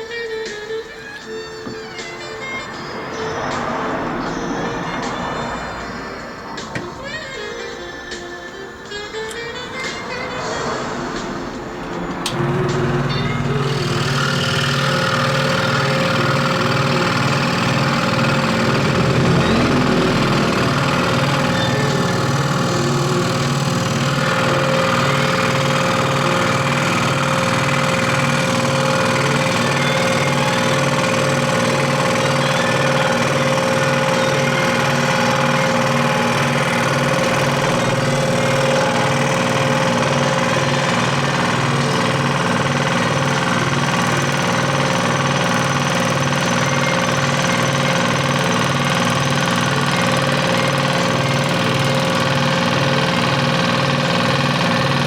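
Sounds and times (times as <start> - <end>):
electric scroll saw running: 0.0 - 55.0.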